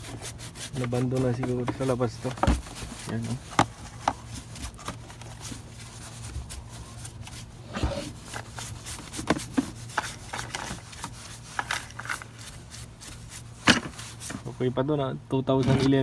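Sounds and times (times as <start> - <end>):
bristle brush scrubbing plastic: 0.0 - 14.9
low steady hum: 0.0 - 16.0.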